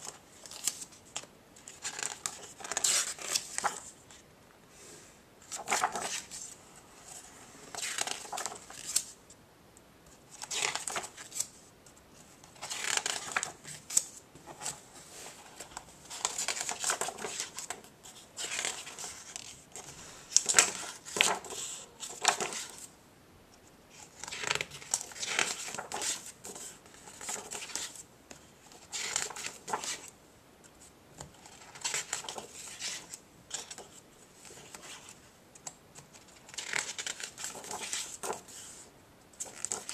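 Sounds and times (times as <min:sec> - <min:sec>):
book pages turning: 0:00.0 - 0:04.2, 0:05.4 - 0:09.2, 0:10.3 - 0:11.6, 0:12.4 - 0:22.9, 0:23.9 - 0:28.0, 0:28.7 - 0:30.1, 0:31.2 - 0:38.8, 0:39.4 - 0:39.9.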